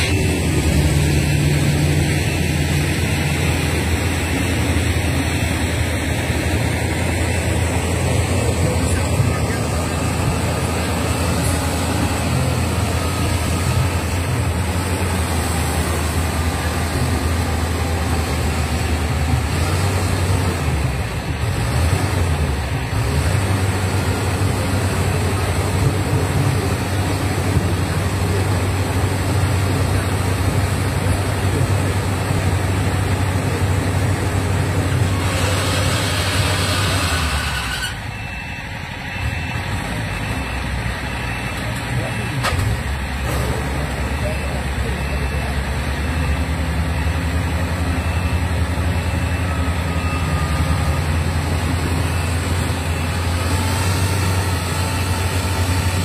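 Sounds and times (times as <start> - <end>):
combine harvester engine humming: 0.0 - 56.0.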